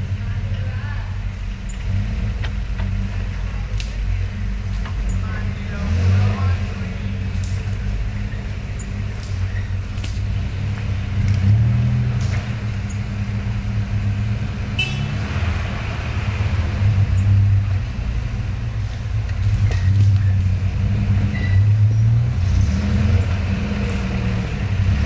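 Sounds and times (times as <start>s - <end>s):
truck engine running at low revs: 0.0s - 25.0s.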